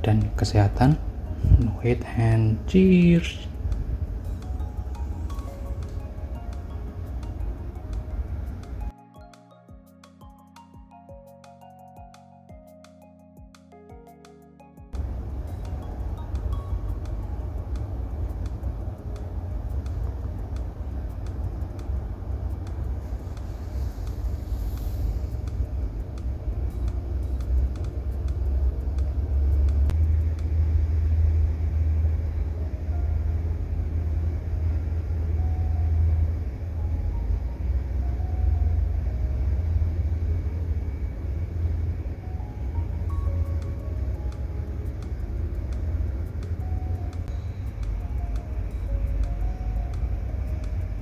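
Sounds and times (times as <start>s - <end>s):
steady low rumble: 0.0s - 8.9s, 15.0s - 51.0s.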